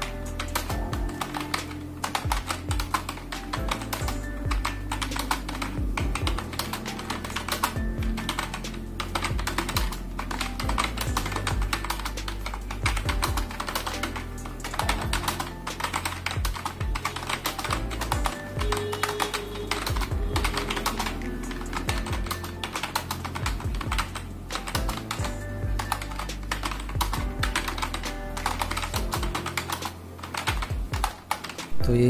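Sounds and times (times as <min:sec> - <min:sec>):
background music: 0:00.0 - 0:32.0
keyboard typing: 0:00.0 - 0:32.0.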